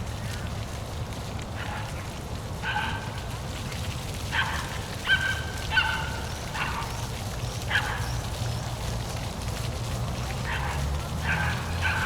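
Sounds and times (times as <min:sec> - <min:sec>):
waterfall rumble: 0:00.0 - 0:12.0.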